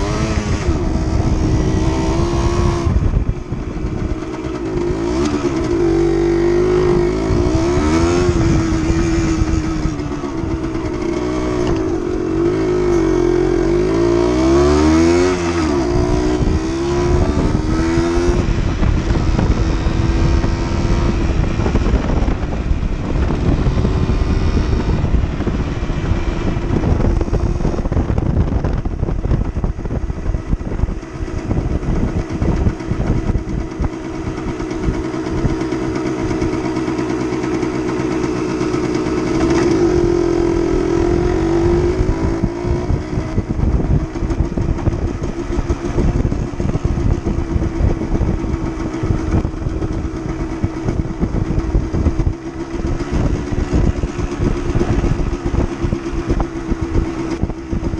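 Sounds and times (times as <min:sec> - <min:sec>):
motorcycle engine running: 0:00.0 - 0:57.9
wind rumble on microphone: 0:00.0 - 0:57.9.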